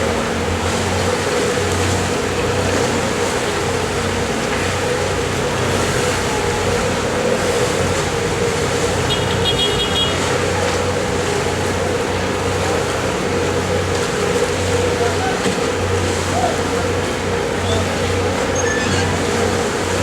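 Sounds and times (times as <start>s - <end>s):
ferry engines droning: 0.0s - 20.0s.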